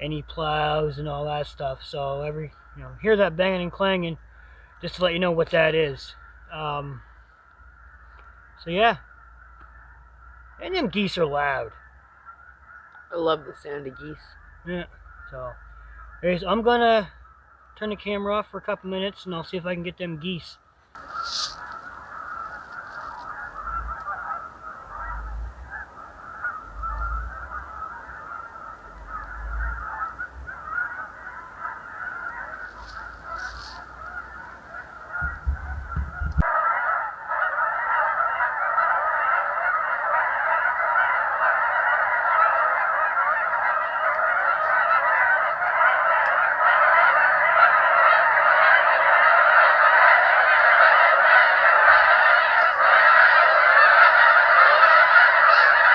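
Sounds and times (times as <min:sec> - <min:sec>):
flock of geese honking: 0:00.0 - 0:55.9.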